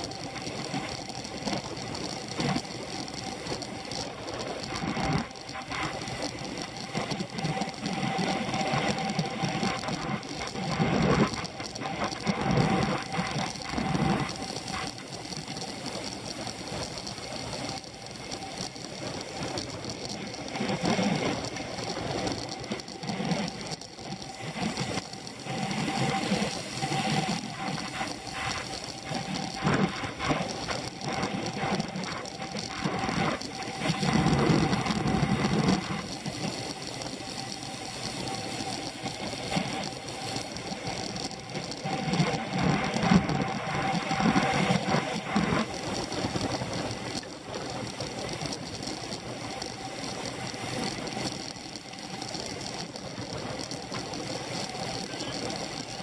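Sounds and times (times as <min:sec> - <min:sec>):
bicycle rattling over road: 0:00.0 - 0:56.0.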